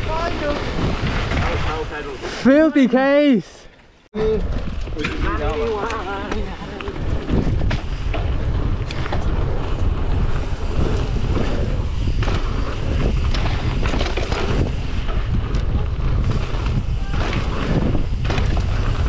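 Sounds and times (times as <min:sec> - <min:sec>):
bike knocking and rattling: 0:00.0 - 0:02.1, 0:04.2 - 0:19.0
wind buffeting microphone: 0:00.0 - 0:02.2, 0:04.2 - 0:19.0
tyres on dirt and gravel: 0:00.0 - 0:19.0.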